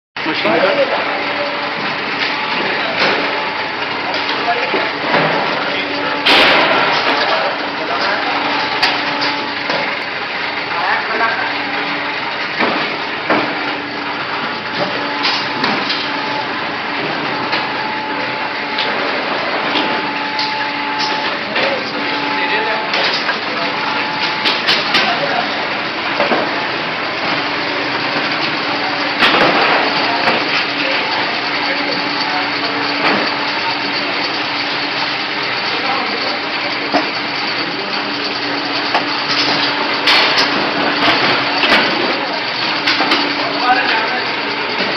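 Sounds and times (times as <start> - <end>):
filling machine running: 0.2 - 44.9
pump humming: 0.2 - 44.9.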